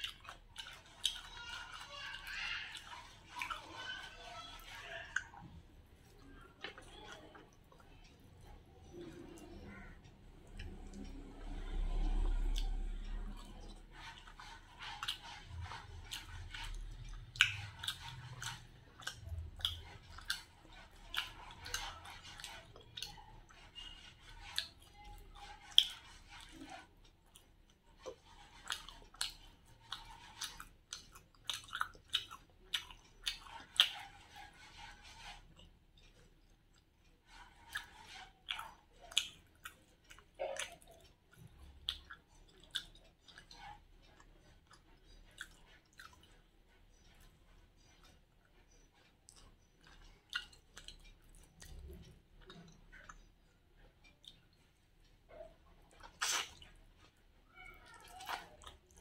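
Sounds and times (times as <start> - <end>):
person chewing with wet smacks: 0.0 - 59.0.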